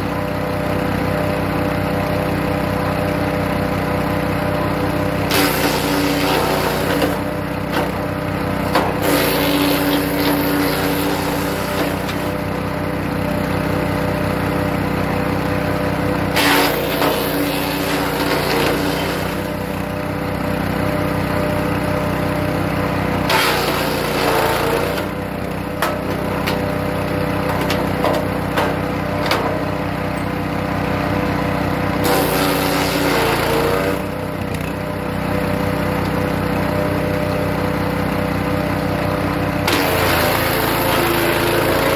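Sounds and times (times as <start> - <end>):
wood chipper engine running: 0.0 - 41.9.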